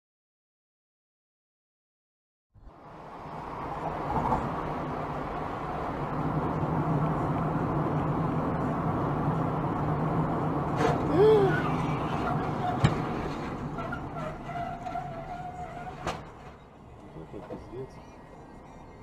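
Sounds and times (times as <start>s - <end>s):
car road and engine noise: 2.6s - 19.0s.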